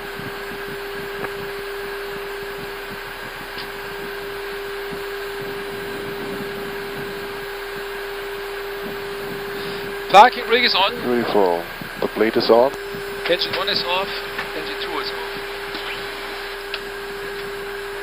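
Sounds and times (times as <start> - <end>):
aircraft cockpit hiss and hum: 0.0 - 18.0.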